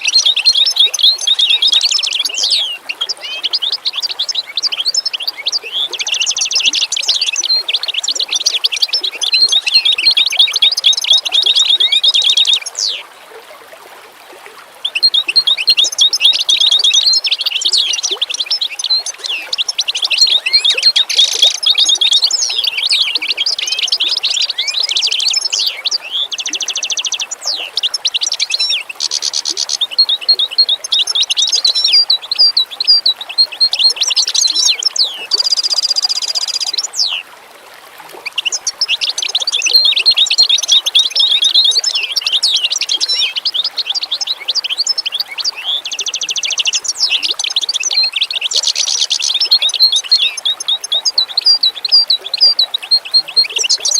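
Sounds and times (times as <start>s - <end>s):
songbirds chirping and twittering: 0.0s - 13.0s, 14.8s - 37.3s, 38.1s - 53.9s.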